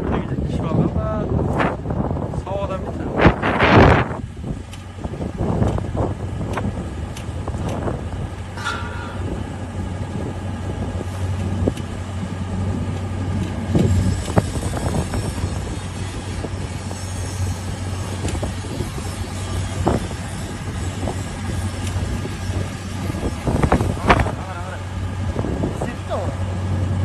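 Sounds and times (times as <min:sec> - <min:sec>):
engine humming: 0:02.9 - 0:27.0.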